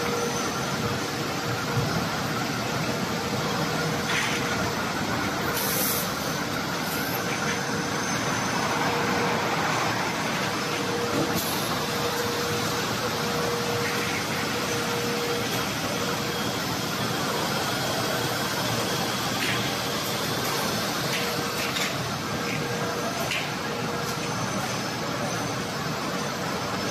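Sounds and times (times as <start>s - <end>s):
machine hum: 0.0s - 26.9s.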